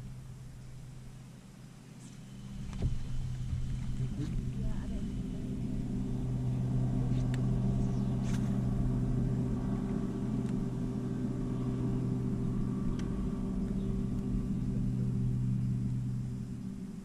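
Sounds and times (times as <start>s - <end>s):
electric trolling motor humming: 0.0s - 17.0s.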